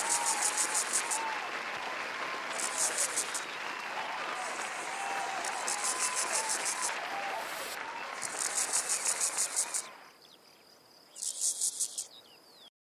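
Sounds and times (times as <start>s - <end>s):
crickets chirping: 0.0s - 1.5s, 2.4s - 12.7s.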